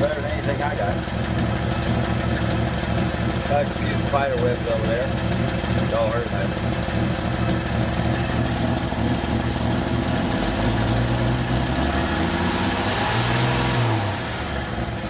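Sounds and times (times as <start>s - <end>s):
truck engine idling: 0.0s - 12.9s, 13.5s - 15.0s.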